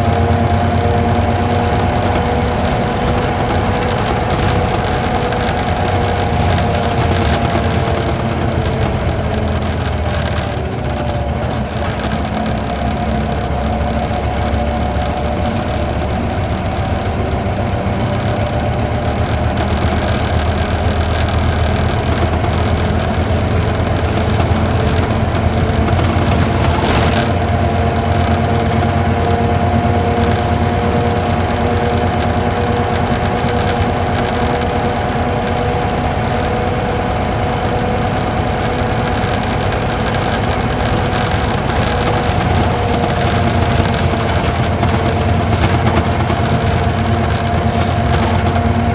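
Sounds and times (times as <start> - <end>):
diesel engine pulling uphill: 0.0 - 48.9
road noise: 0.0 - 48.9.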